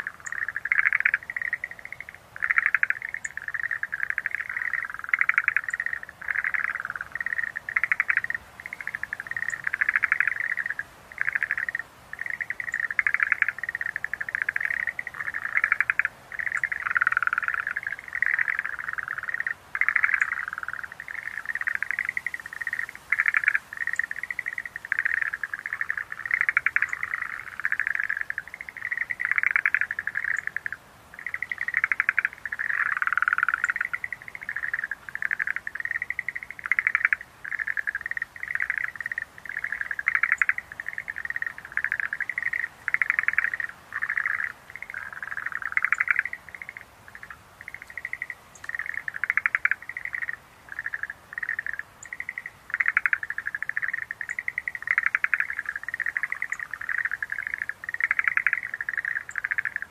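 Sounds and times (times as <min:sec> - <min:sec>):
tree frogs trilling: 0:00.0 - 0:59.9.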